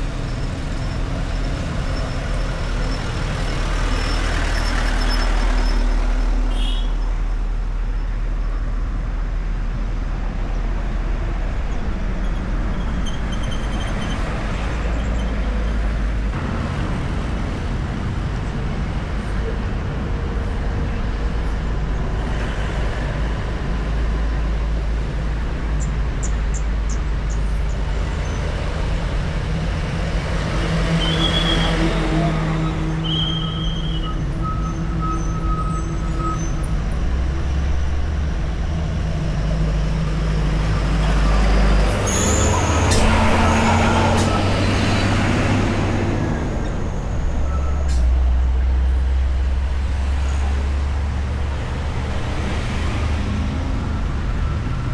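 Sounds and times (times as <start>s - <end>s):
cars and motorbikes passing: 0.0s - 54.9s.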